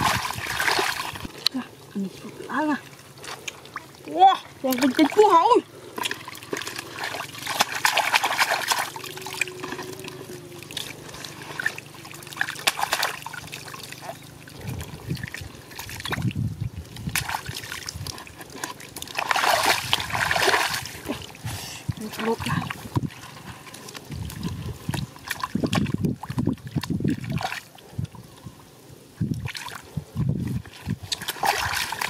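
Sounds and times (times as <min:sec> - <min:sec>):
mud squelching and splashing: 0:00.0 - 0:28.6, 0:29.2 - 0:32.0.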